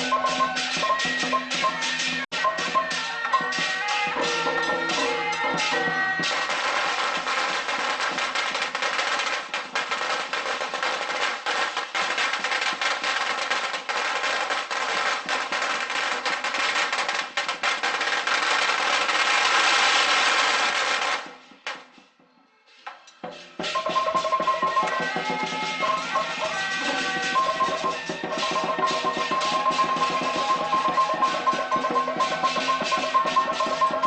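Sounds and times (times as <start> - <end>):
firecrackers crackling: 0.0 - 22.2, 22.8 - 34.0.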